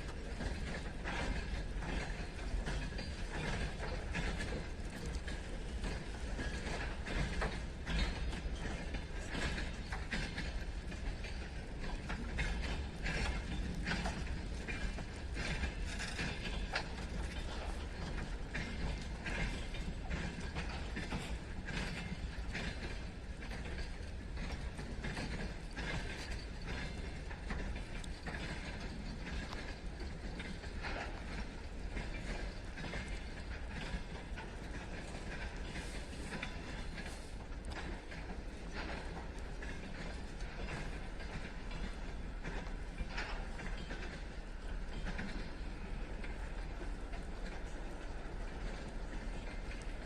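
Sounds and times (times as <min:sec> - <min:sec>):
low rumble of rolling wagons: 0:00.0 - 0:50.0
wagon wheels clicking on rails: 0:00.0 - 0:50.0.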